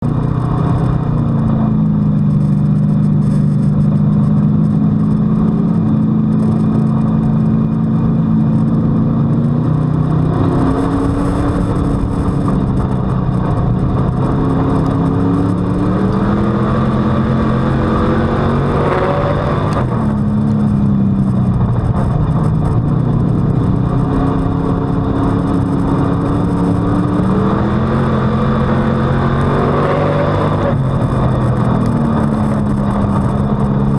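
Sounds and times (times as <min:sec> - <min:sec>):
race car engine revving: 0:00.0 - 0:33.9
wind and rumble: 0:00.0 - 0:33.9.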